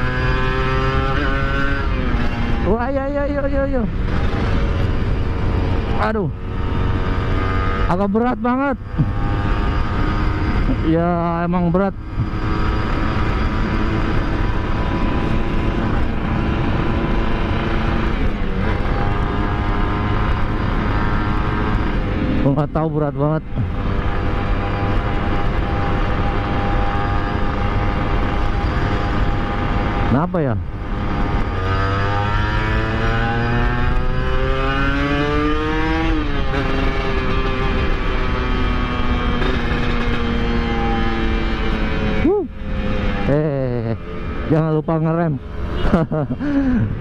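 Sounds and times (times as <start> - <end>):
two-stroke motorcycle engine accelerating: 0.0 - 47.0.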